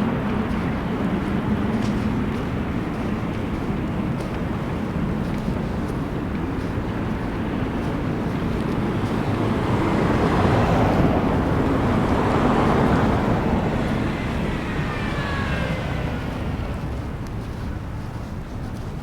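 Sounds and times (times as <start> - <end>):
low wind rumble: 0.0 - 19.0
road vehicle passing: 0.0 - 19.0.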